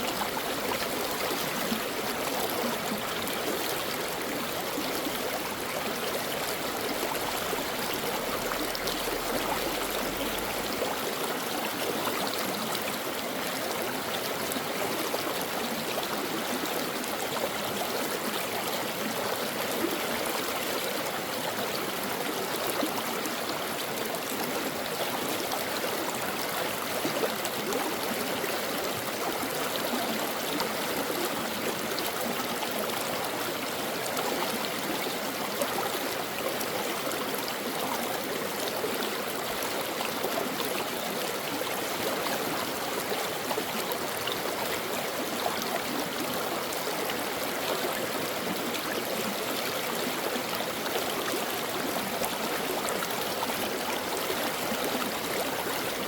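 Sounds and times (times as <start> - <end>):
brook flowing: 0.0 - 56.0.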